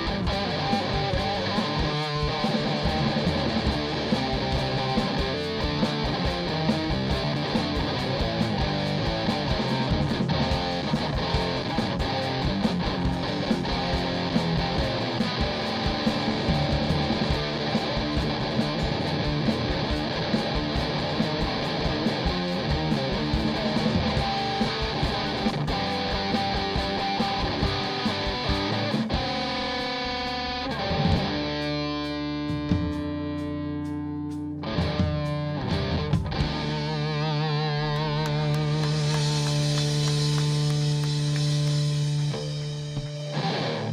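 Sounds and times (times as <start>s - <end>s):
distorted electric guitar: 0.0s - 43.9s
drums: 0.0s - 43.9s.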